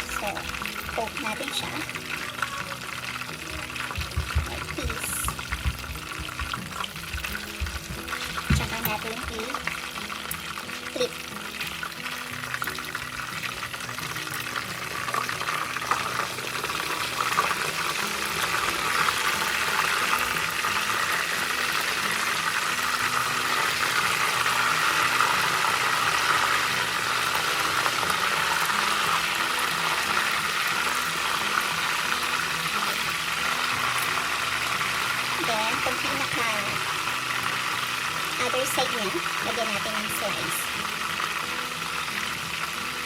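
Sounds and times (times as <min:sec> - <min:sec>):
chicken sizzling in oil: 0:00.0 - 0:43.0.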